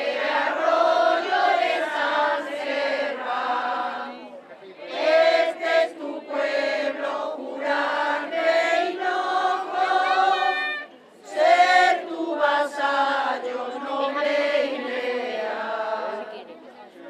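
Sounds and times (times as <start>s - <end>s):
crowd singing a hymn: 0.0s - 16.8s.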